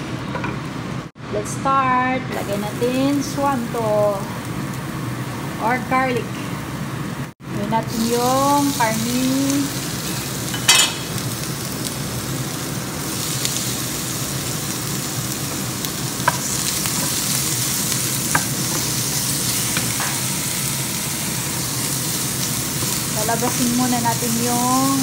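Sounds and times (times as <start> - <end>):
meat sizzling in oil: 2.4 - 25.0.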